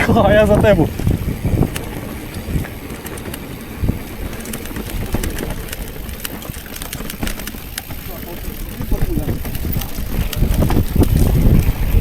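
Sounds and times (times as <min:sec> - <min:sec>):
wind buffeting microphone: 0:00.0 - 0:12.0
small clicks and scrapes: 0:01.0 - 0:11.7.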